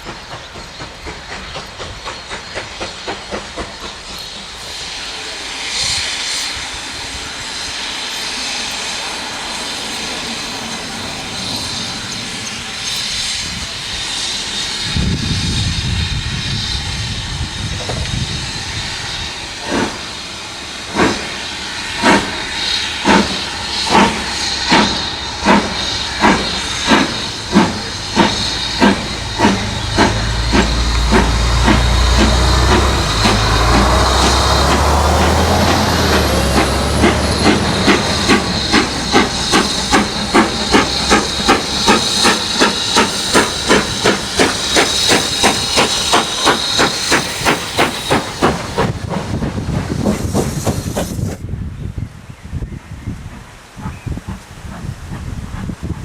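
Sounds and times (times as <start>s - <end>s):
steam hissing: 0.0s - 51.7s, 52.8s - 56.0s
steam locomotive exhaust chuffs: 0.0s - 51.7s, 53.0s - 56.0s.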